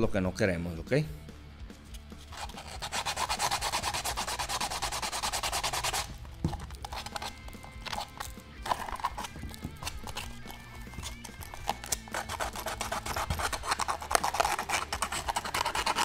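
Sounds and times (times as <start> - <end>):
sandpaper rubbing plastic: 2.2 - 16.0.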